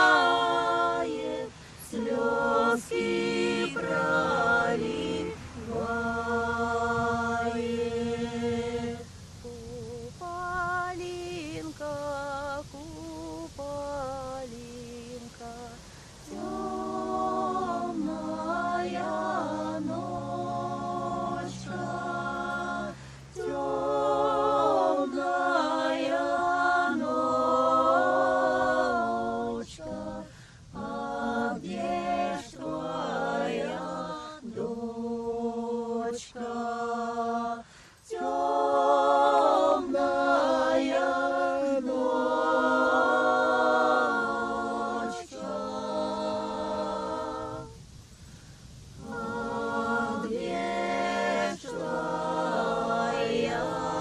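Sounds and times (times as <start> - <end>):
folk ensemble singing in harmony: 0.0 - 54.0.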